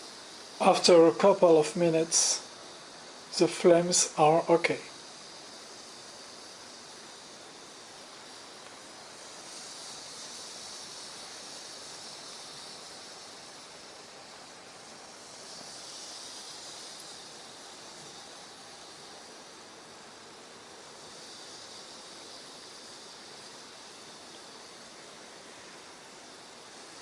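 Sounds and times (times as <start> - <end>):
fireplace flames hissing: 0.0 - 27.0.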